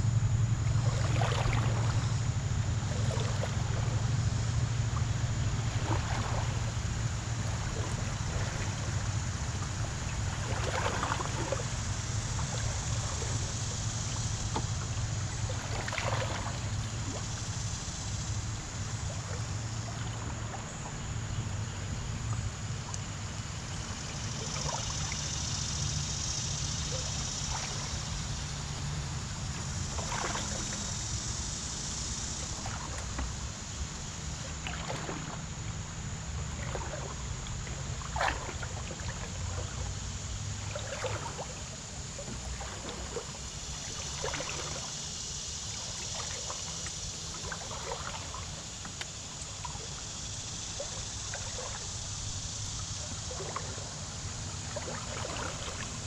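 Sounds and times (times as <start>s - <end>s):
water lapping against a canoe: 0.0s - 56.0s.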